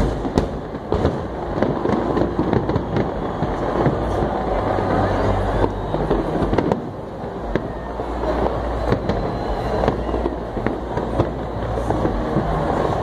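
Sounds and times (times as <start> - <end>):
firework bangs and crackles: 0.0 - 13.0
rumble of firework bursts: 0.0 - 13.0.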